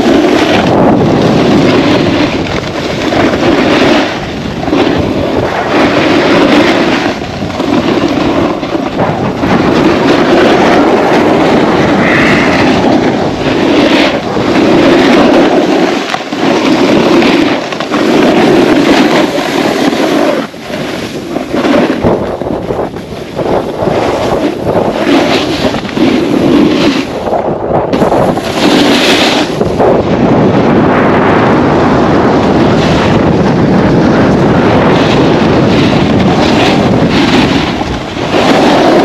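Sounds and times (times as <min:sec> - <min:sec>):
snowboard edges scraping snow: 0:00.0 - 0:39.0
wind rushing over microphone: 0:00.0 - 0:39.0.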